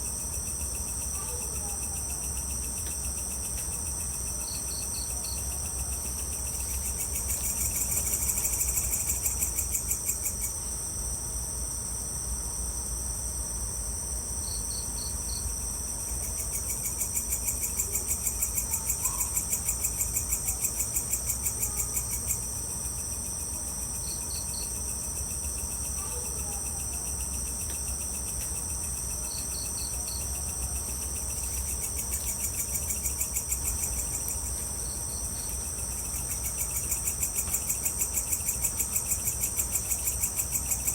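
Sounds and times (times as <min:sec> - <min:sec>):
crickets and insects trilling: 0:00.0 - 0:40.9.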